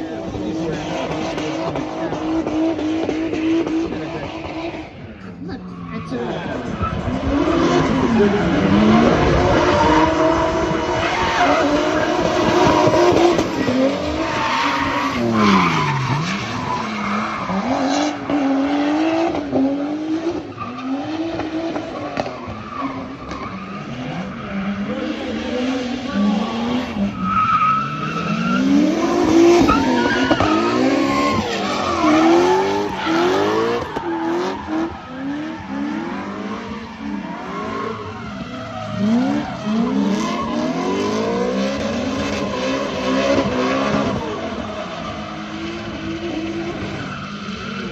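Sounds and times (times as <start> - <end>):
car engine revving: 0.0 - 47.9
tyres skidding and squealing: 0.0 - 47.9.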